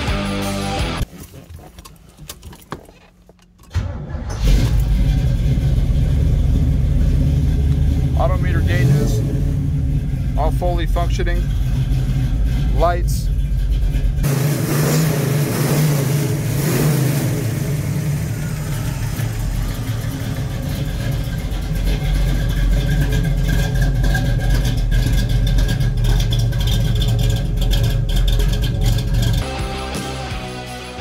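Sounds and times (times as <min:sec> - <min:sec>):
car engine idling: 0:00.0 - 0:29.6.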